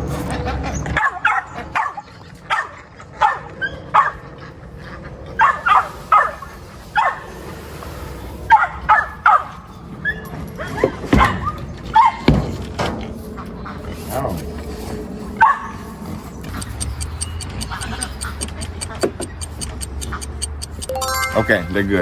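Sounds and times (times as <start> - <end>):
dogs yipping and barking: 0.2 - 14.1, 14.9 - 20.8.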